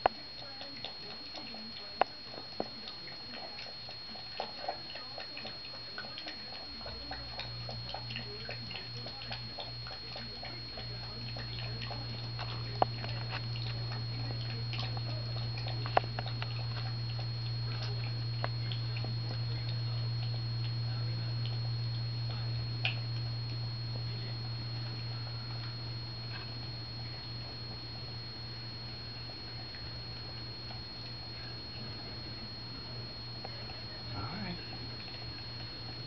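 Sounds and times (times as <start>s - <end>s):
low steady hum: 0.0s - 36.0s
puppy lapping milk: 0.0s - 36.0s.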